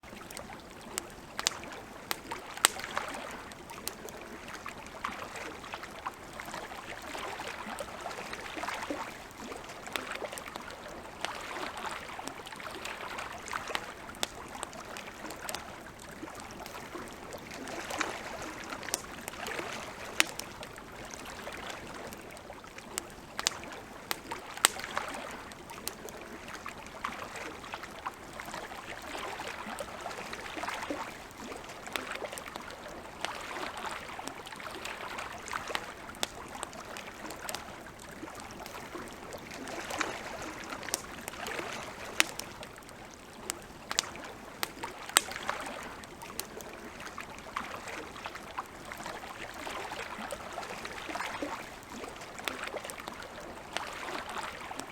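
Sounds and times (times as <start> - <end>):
campfire crackling and popping: 0.0 - 54.0
lake water lapping: 0.0 - 54.9.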